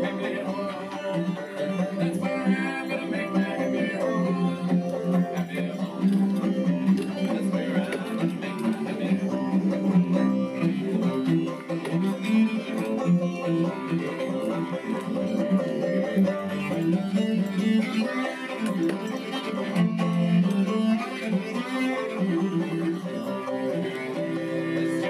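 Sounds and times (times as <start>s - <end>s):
banjo picking: 0.0s - 25.0s
cello: 0.0s - 25.0s.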